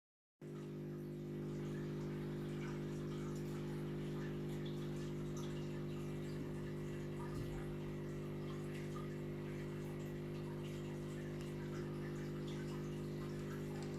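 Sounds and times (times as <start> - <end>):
aquarium pump humming: 0.4 - 13.9
water trickling and dripping: 0.4 - 13.9.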